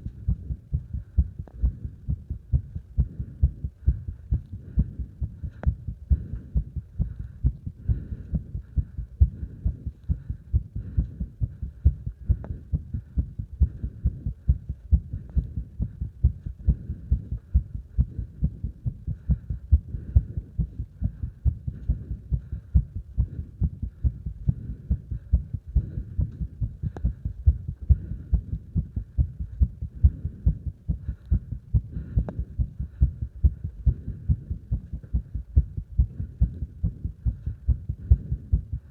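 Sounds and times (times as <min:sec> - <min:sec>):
faint breathing: 0:00.0 - 0:38.9
fast heartbeat thuds: 0:00.0 - 0:38.9.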